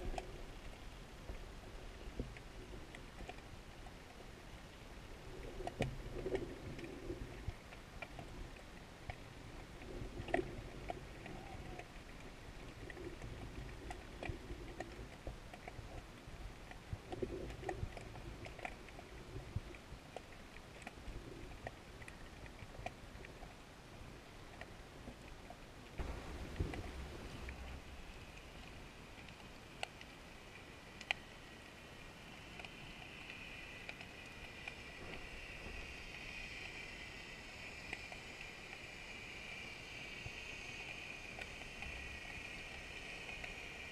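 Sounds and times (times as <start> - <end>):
underwater clicks and ticks: 0.0 - 43.9
underwater rumble: 0.0 - 43.9.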